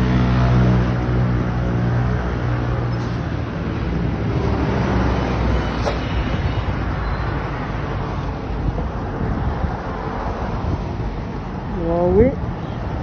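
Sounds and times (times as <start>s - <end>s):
traffic rumble: 0.0s - 13.0s
vehicle engine hum: 0.0s - 13.0s.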